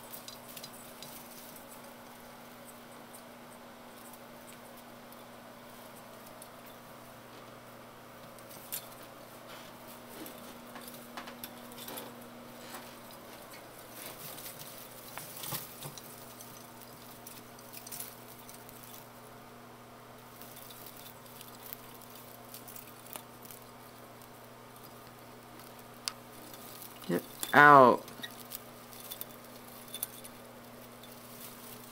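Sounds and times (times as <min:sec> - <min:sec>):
branches and ornaments rustling: 0:00.0 - 0:31.9.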